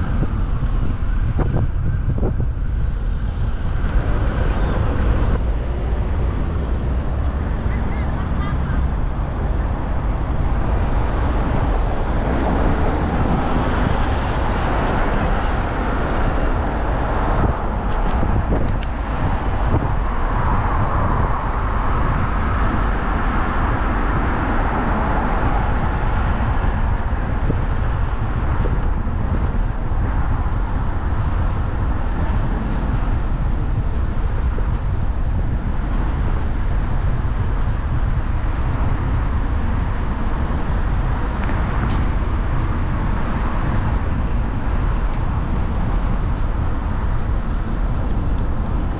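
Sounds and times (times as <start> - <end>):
bus running along road: 0.0 - 48.9
cars passing: 0.0 - 48.9
steady low rumble: 0.0 - 48.9.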